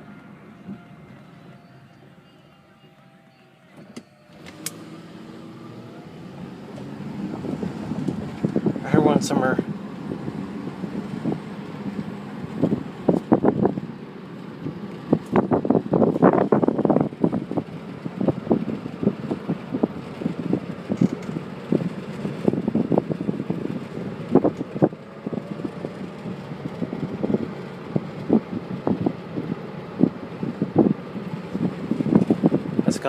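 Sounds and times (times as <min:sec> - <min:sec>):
low road rumble: 0:00.0 - 0:33.0
wind buffeting microphone: 0:05.2 - 0:33.0.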